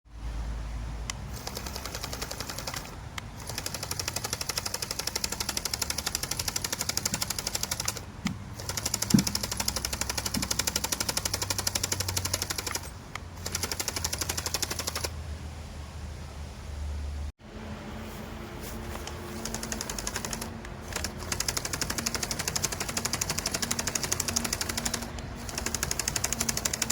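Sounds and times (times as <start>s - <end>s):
toy excavator gear motors rattling: 1.1s - 15.1s, 18.9s - 26.9s.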